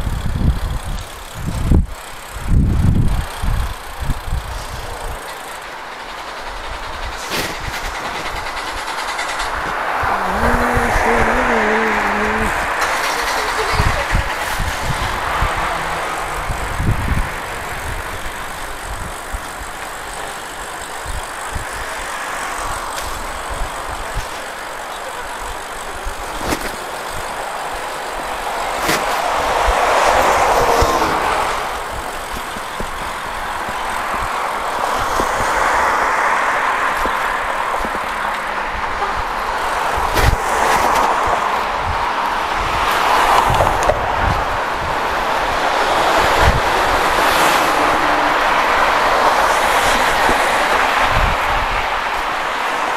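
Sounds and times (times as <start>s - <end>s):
traffic: 0.0s - 52.9s
wind and road noise: 0.0s - 52.9s.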